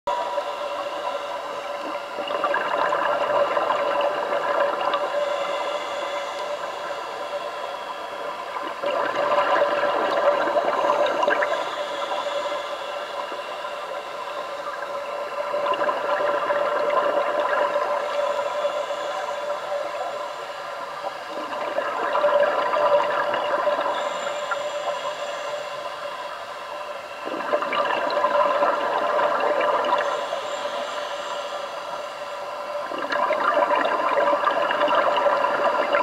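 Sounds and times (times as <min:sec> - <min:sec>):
faint steady hum: 0:00.1 - 0:36.0
underwater exhaled bubbles: 0:00.1 - 0:36.0.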